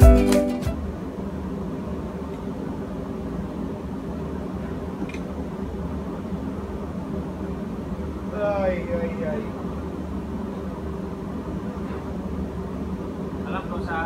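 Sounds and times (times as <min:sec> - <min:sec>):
engine room machinery hum: 0:00.0 - 0:14.0.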